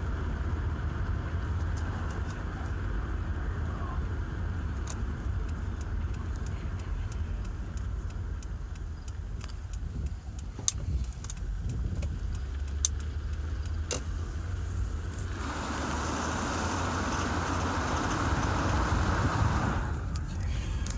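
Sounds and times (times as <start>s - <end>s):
car engine running: 0.0s - 20.9s
sharp engine ticks: 4.0s - 20.9s.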